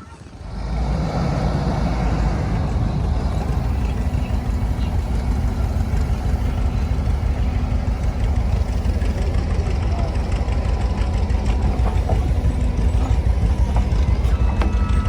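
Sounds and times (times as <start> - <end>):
large engine idling: 0.0 - 15.0.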